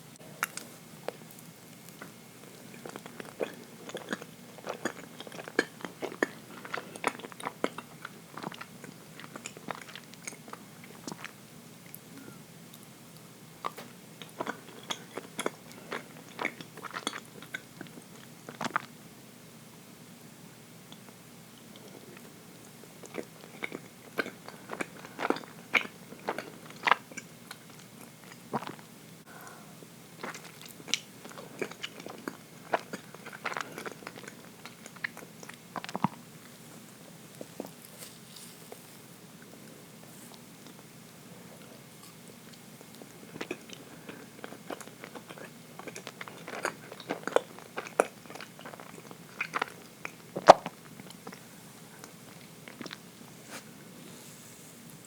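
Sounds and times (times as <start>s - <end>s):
person chewing cake: 0.2s - 18.9s, 20.9s - 29.6s, 30.2s - 53.8s.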